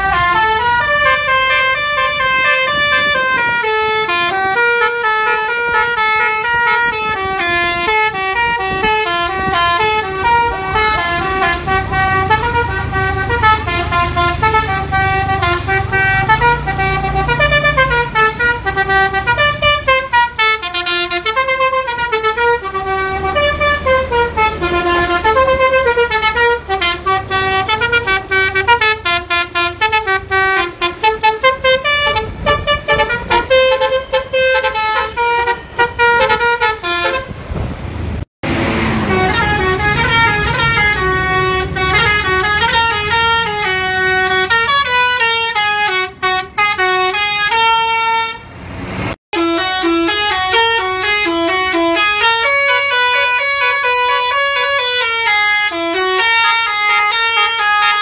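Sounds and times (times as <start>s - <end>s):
multi-tone bus horn melody: 0.0s - 37.7s, 38.4s - 58.0s
bus engine running: 0.0s - 58.0s.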